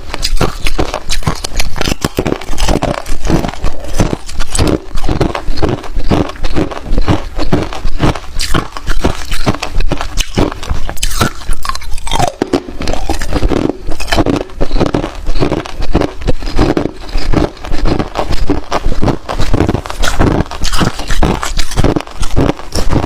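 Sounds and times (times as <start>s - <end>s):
ice crunching between teeth: 0.0s - 23.0s.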